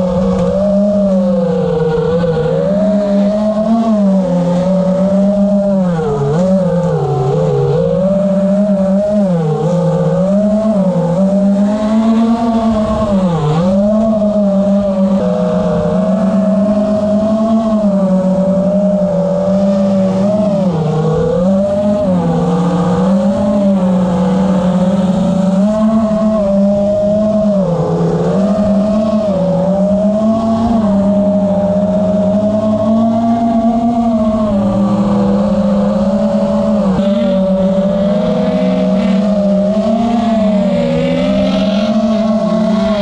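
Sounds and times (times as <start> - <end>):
motor revving: 0.0 - 43.0.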